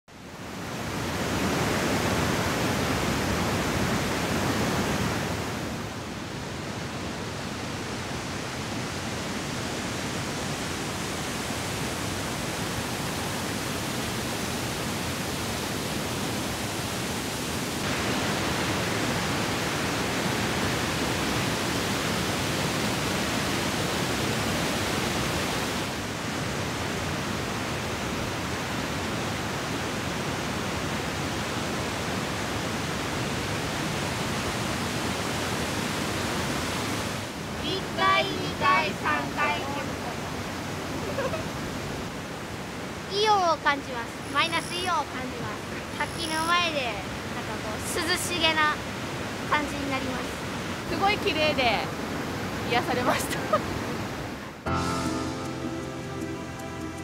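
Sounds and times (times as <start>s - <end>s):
waterfall rushing over rocks: 0.1s - 54.7s.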